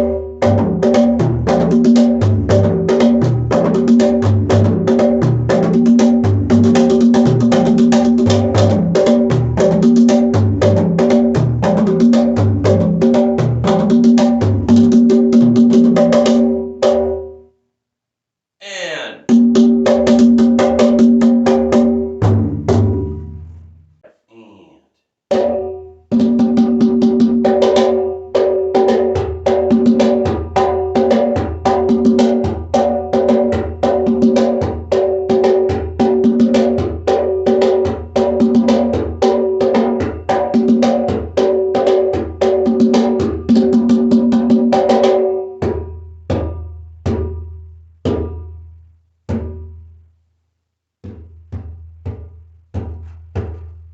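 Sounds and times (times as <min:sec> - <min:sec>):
hand drum rhythm: 0:00.0 - 0:17.2, 0:19.2 - 0:23.4, 0:25.3 - 0:48.7, 0:51.0 - 0:53.9.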